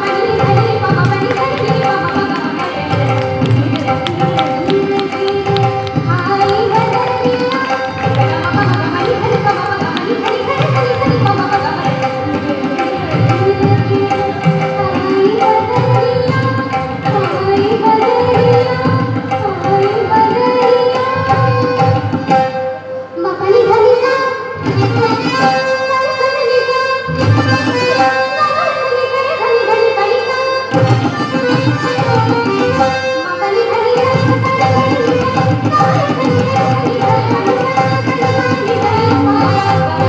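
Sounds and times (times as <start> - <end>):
harmonium: 0.0 - 40.0
tabla beat: 0.0 - 40.0
woman singing through a microphone: 0.0 - 40.0.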